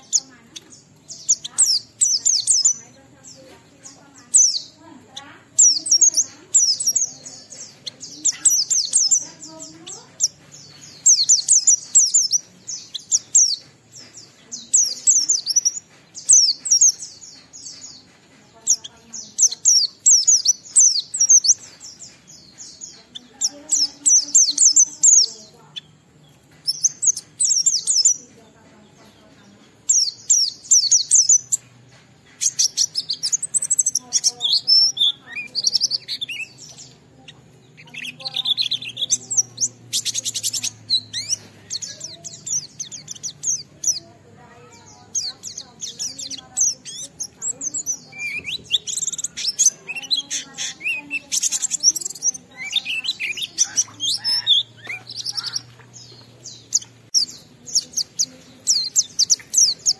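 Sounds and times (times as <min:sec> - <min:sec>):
bird twittering: 0:00.0 - 0:59.9.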